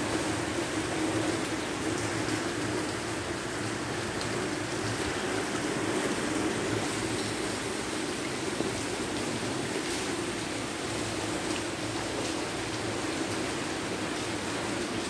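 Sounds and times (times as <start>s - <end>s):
heavy rain on paving and plants: 0.0s - 15.0s.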